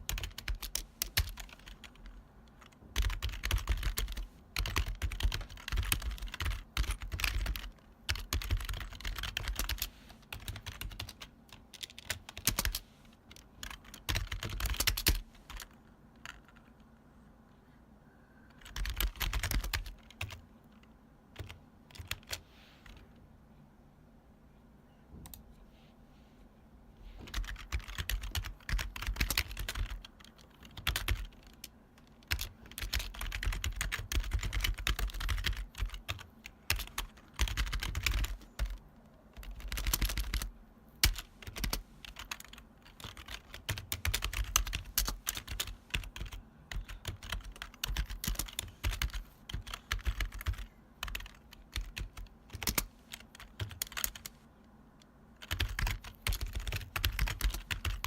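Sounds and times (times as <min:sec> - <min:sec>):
clacky keyboard typing: 0:00.0 - 0:16.8, 0:18.5 - 0:23.0, 0:27.3 - 0:38.8, 0:39.4 - 0:54.4, 0:55.4 - 0:58.0.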